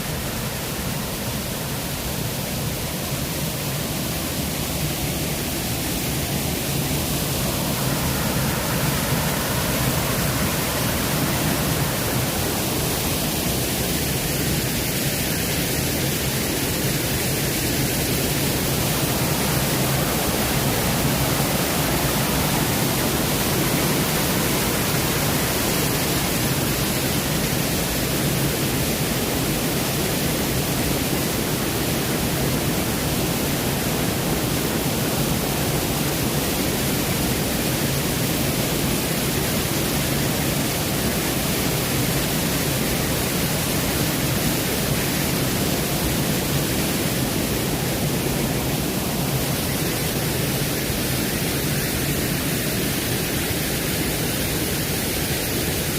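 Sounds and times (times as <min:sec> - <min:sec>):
waterfall roaring: 0:00.0 - 0:55.9.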